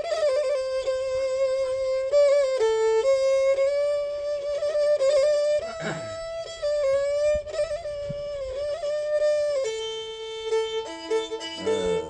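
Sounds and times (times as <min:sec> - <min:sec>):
bowed fiddle melody: 0:00.0 - 0:12.0
lower fiddle line: 0:00.0 - 0:12.0.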